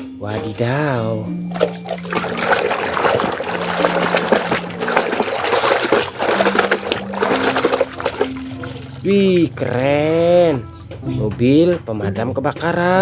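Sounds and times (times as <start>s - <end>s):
water trickling and splashing: 0.3s - 11.0s.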